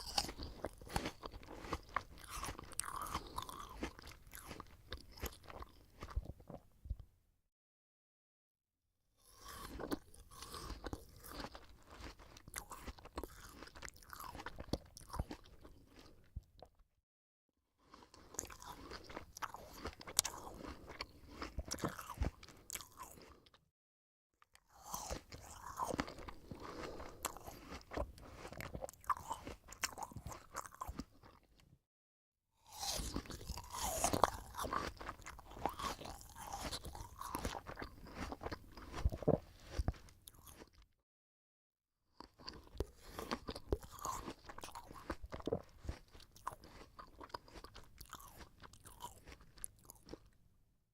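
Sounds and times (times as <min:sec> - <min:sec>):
person chewing crisp apple: 0:00.0 - 0:07.0, 0:09.2 - 0:16.8, 0:17.8 - 0:23.6, 0:24.5 - 0:31.7, 0:32.6 - 0:40.9, 0:42.2 - 0:50.4.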